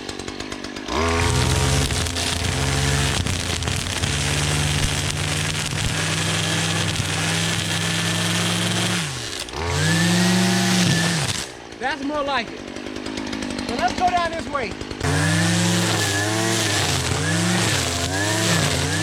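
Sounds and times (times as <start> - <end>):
string trimmer engine revving: 0.0 - 19.0.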